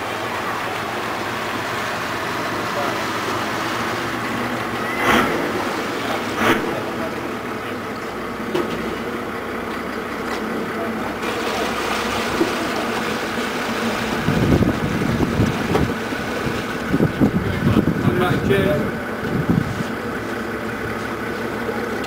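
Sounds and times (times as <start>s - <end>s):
low rumbling buffets: 0.0s - 22.0s
outboard engine running: 0.0s - 22.0s.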